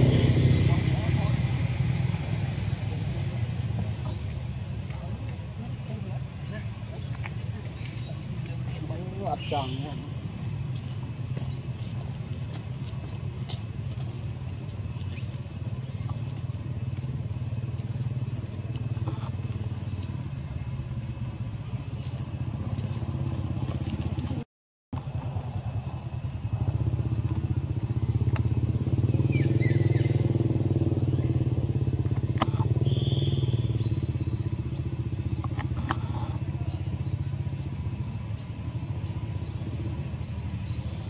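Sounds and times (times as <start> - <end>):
low engine rumble: 0.0 - 41.0.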